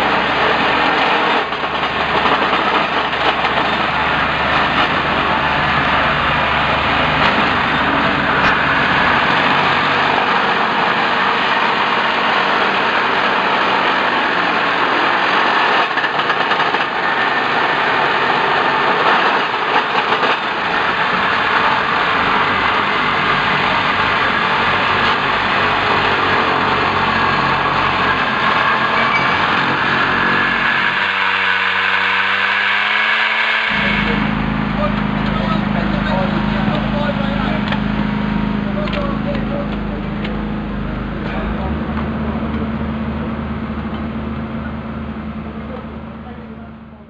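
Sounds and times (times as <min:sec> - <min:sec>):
excavator engine and tamping machine: 0:00.0 - 0:47.0.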